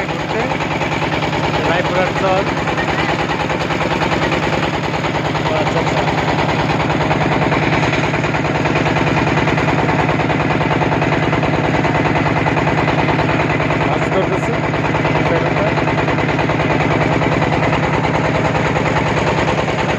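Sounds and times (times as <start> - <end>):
boat engine chugging: 0.0 - 19.9.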